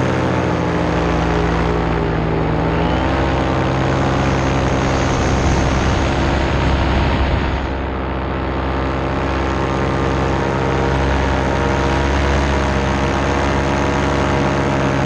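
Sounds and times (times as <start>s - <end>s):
paramotor engine and propeller: 0.0s - 15.0s.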